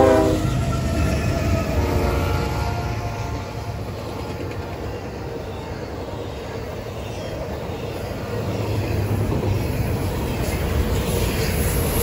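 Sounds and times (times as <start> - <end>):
steel wheels rumbling on track: 0.0 - 12.0.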